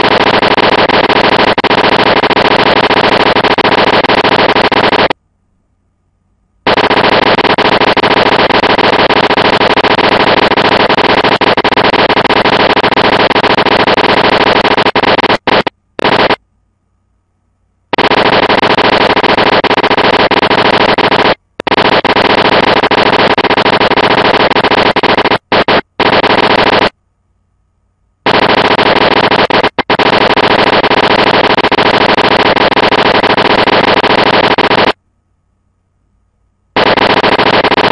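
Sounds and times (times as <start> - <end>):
harsh rapid crackling: 0.0 - 5.2, 6.6 - 16.4, 17.9 - 26.9, 28.2 - 35.0, 36.8 - 37.9.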